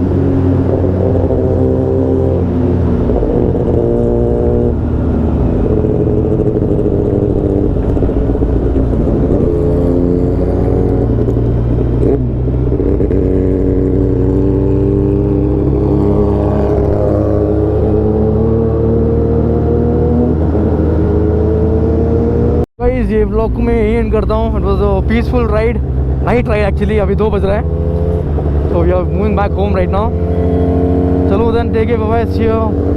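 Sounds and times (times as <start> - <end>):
motorcycle engine running: 0.0 - 19.8, 21.4 - 32.9.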